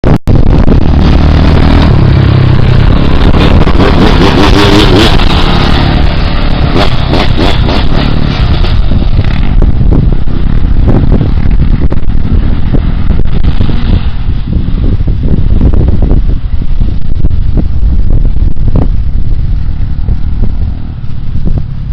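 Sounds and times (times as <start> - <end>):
motorbike engine revving: 0.3 - 21.9.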